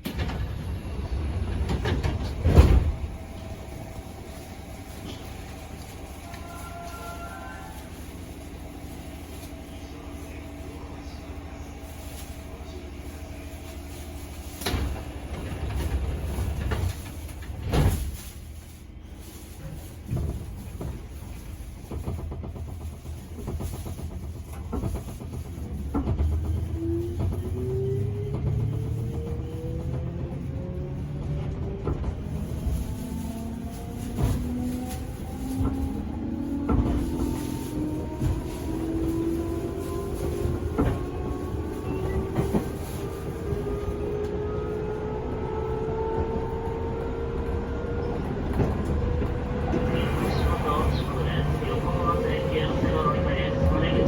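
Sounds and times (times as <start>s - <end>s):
train low rumble with knocks: 0.0s - 54.0s.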